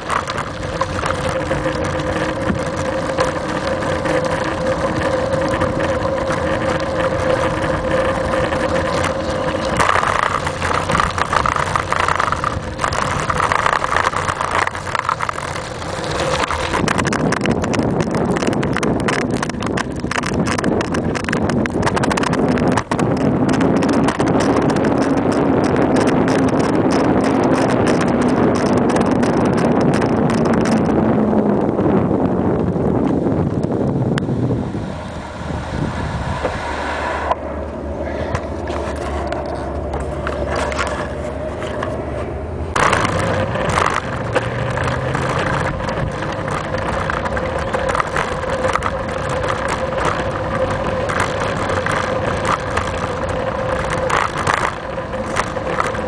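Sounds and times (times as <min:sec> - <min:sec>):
rapid clicking and rattling: 0:00.0 - 0:34.3, 0:38.3 - 0:42.0, 0:42.7 - 0:56.0
wind and road noise: 0:00.0 - 0:56.0.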